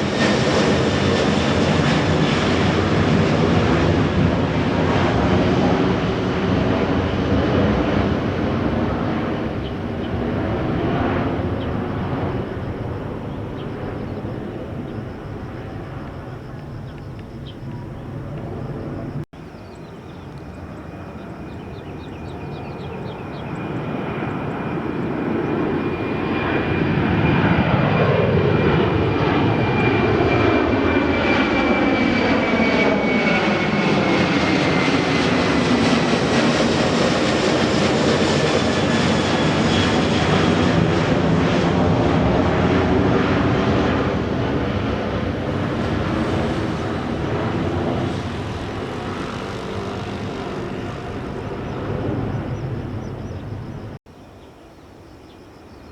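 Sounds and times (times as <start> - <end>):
high engine whine: 0.0 - 54.0
jet airliner engine noise: 0.0 - 55.9.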